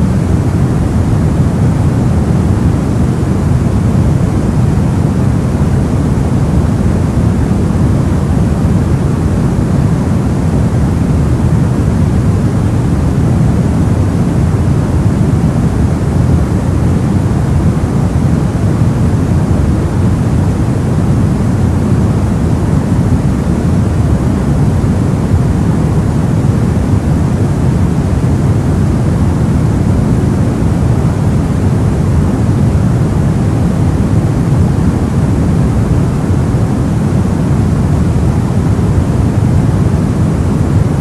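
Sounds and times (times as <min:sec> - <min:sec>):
steady low brown noise: 0:00.0 - 0:41.0.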